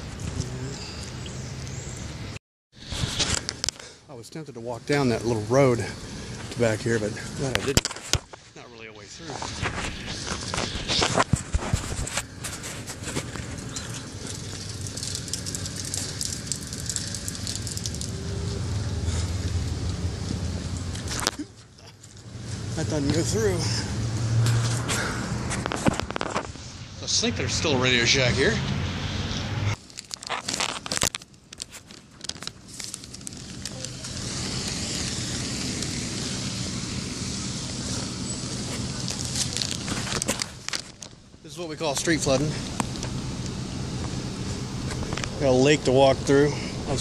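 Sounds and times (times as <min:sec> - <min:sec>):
low traffic hum: 0:00.0 - 0:47.0
rushing outdoor background noise: 0:00.0 - 0:47.0.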